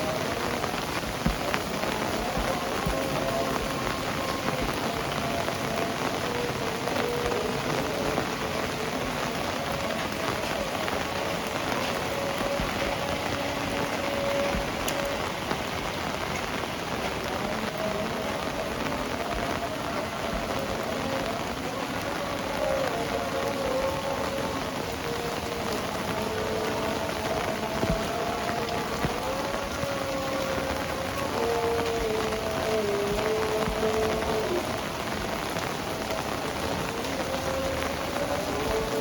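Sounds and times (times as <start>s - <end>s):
heavy rain splashing: 0.0s - 39.0s.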